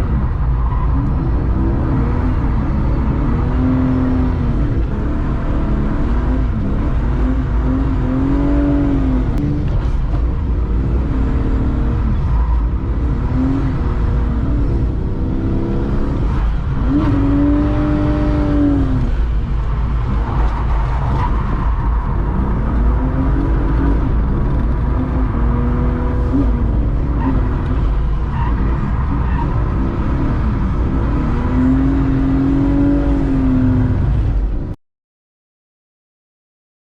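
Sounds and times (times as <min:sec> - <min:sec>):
car engine revving: 0:00.0 - 0:34.8
heavy low rumble: 0:00.0 - 0:34.8.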